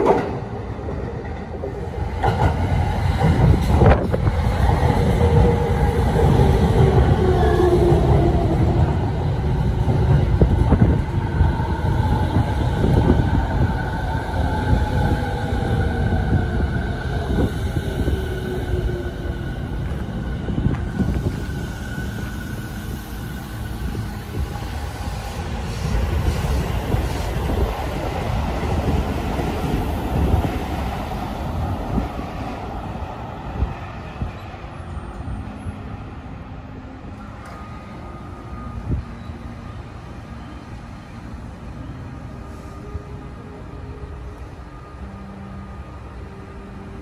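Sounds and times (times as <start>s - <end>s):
high train whine: 0.0s - 47.0s
train rumble: 0.0s - 47.0s.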